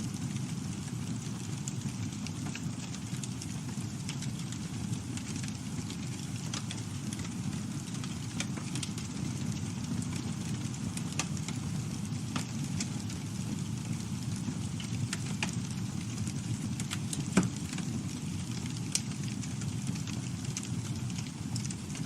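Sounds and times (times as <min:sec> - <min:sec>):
burning wood crackling and popping: 0:00.0 - 0:22.0
low rumble of flames: 0:00.0 - 0:22.0.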